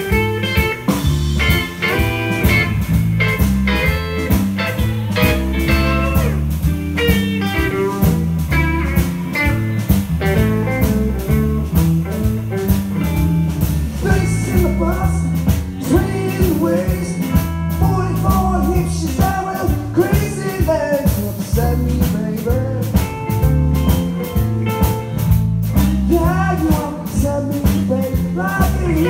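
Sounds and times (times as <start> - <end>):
bass guitar: 0.0 - 29.0
drum kit steady beat: 0.0 - 29.0
electric lead guitar: 0.0 - 29.0.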